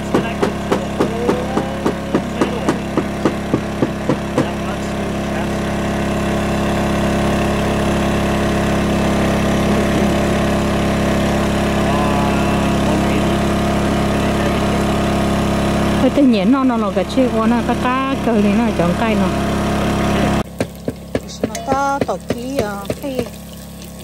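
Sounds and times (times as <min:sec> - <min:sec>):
small engine humming: 0:00.0 - 0:24.0.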